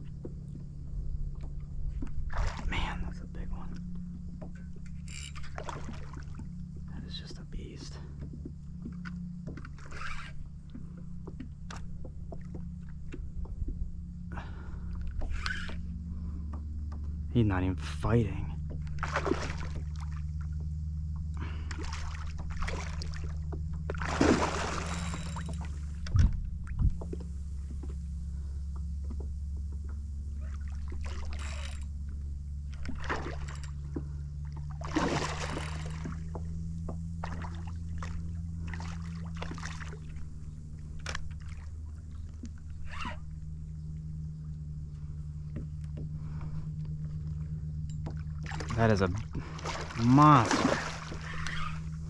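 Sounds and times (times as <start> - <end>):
steady low hum: 0.0 - 52.0
water sloshing and splashing: 0.0 - 52.0.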